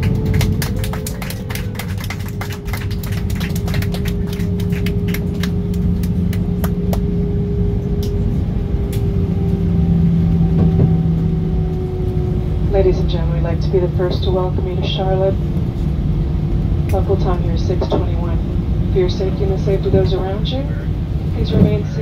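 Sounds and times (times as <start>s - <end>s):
jet engine whine falling: 0.0s - 22.0s
rumble of wheels and engines: 0.0s - 22.0s.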